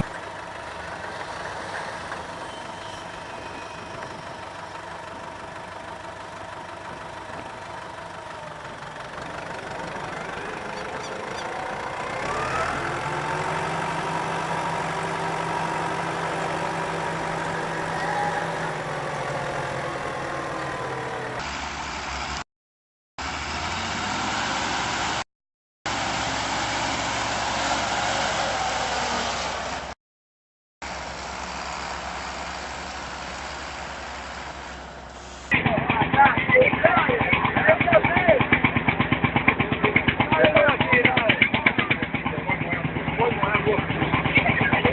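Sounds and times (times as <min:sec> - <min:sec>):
heavy vehicle engine revving: 0:00.0 - 0:22.4, 0:23.2 - 0:25.2, 0:30.8 - 0:44.9.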